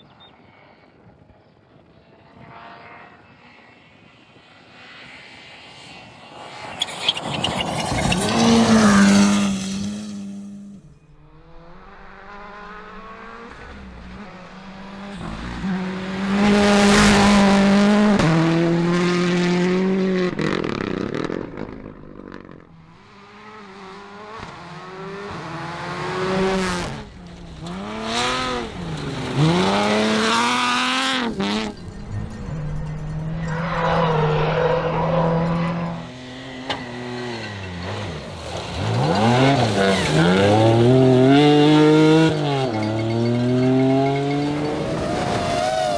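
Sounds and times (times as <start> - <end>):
rally car engines at full throttle: 0.0 - 45.9.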